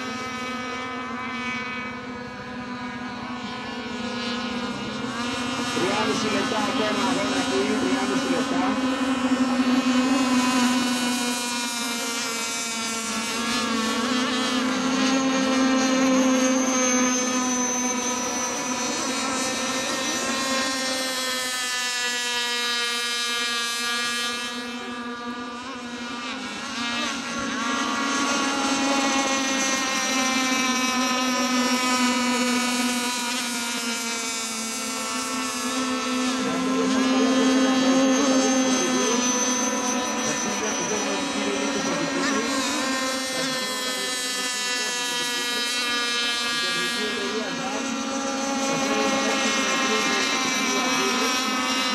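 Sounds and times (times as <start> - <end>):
racing boat engine buzzing: 0.0 - 51.9.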